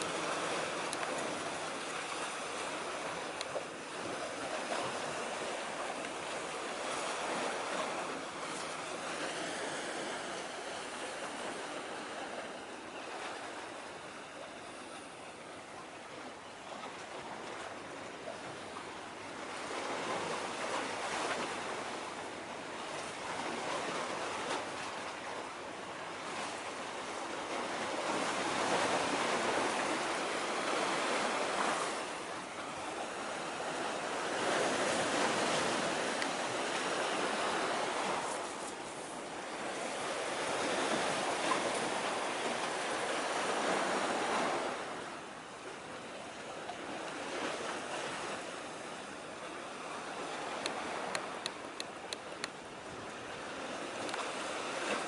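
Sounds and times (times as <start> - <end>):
waves washing against concrete: 0.0 - 14.2, 19.4 - 45.3, 46.7 - 55.0.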